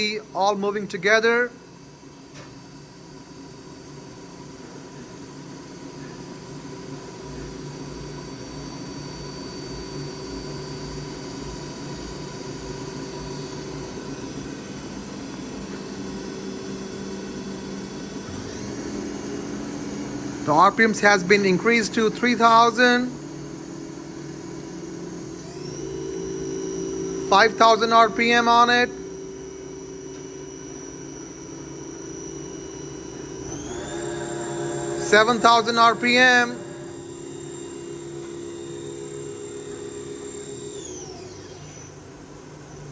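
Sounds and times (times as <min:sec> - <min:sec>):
machining center hum and whine: 0:00.0 - 0:42.9.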